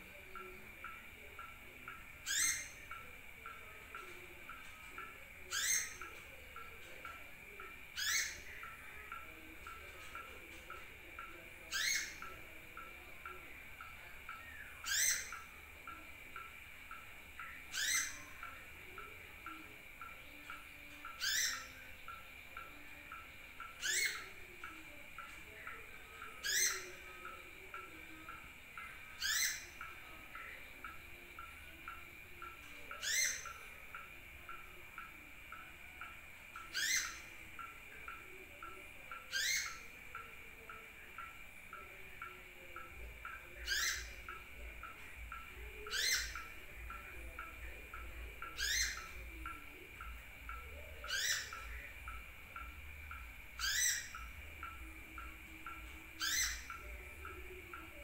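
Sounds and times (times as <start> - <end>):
sunbird high rising chirp: 0.0 - 58.0.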